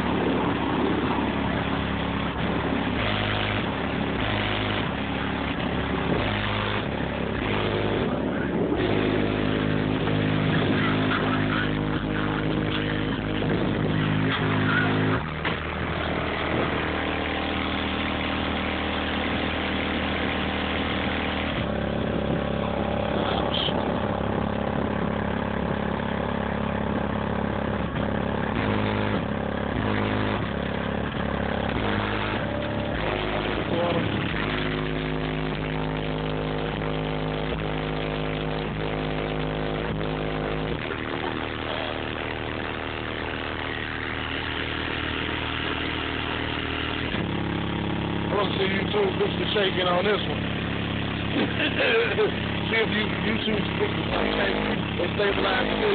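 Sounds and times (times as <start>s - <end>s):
deep bass notes: 0.0s - 55.9s
hip-hop track through subwoofers: 0.0s - 55.9s.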